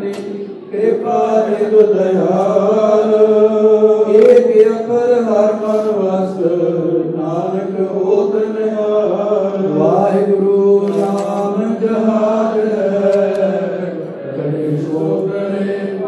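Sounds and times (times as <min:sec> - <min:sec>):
men chanting over a microphone: 0:00.0 - 0:16.0.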